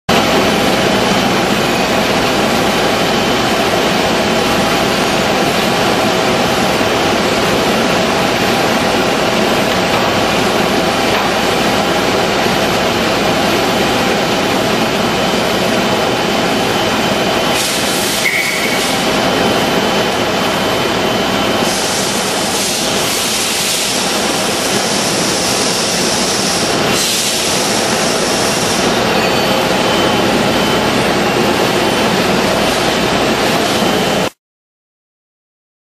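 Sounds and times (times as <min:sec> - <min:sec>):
washing machine mechanical noise: 0:00.1 - 0:34.4.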